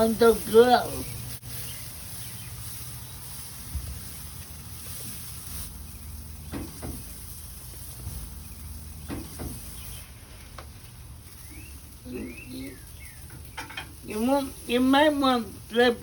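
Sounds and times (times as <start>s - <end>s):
patties sizzling on grill: 0.0s - 16.0s.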